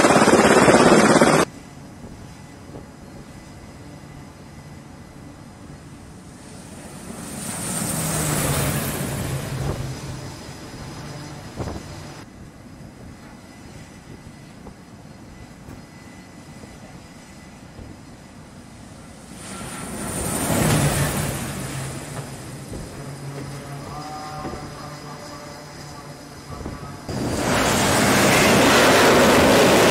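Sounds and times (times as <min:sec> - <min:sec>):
turboprop aircraft engines: 0:00.0 - 0:29.9.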